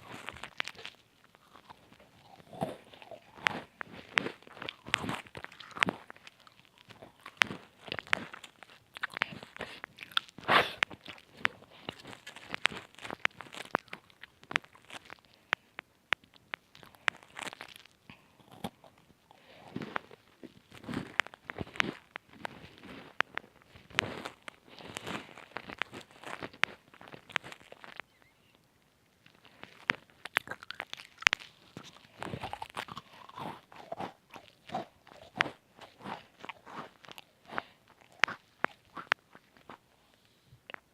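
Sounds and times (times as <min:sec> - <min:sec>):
crunching and chewing cookies: 0:00.0 - 0:40.9.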